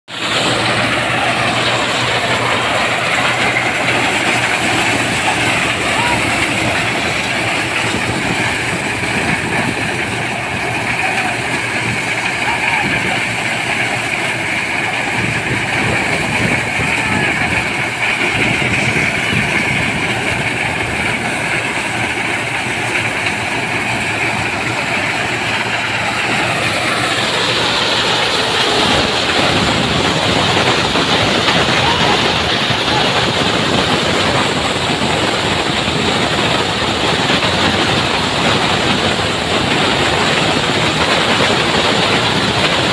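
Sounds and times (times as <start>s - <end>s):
tractor engine: 0.0s - 42.9s
maize sheller running: 0.1s - 42.9s.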